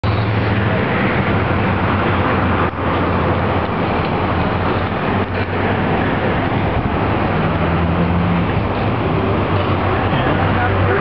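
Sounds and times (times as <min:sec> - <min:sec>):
loud traffic noise: 0:00.0 - 0:11.0.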